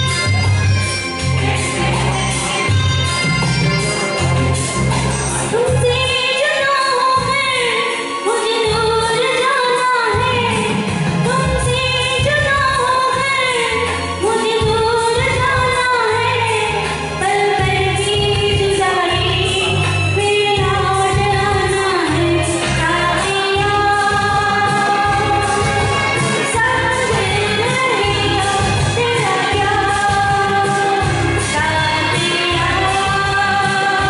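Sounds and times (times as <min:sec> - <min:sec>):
amplified backing music: 0:00.0 - 0:34.0
woman singing into microphone: 0:05.3 - 0:34.0.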